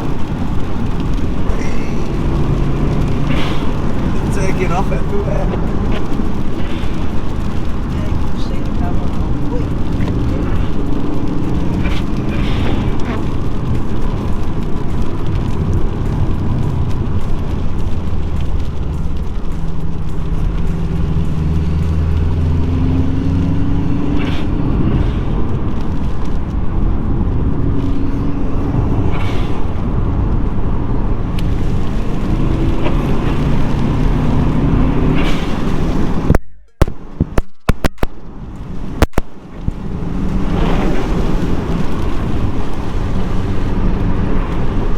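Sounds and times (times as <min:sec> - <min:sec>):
car engine accelerating: 0:00.0 - 0:37.4, 0:38.0 - 0:44.9.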